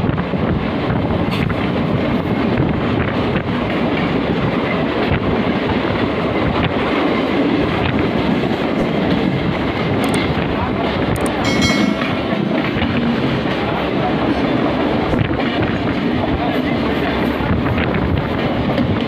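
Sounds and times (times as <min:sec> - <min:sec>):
wind rush: 0:00.0 - 0:11.5, 0:12.2 - 0:19.0
train wheels rumbling on track: 0:00.0 - 0:19.0.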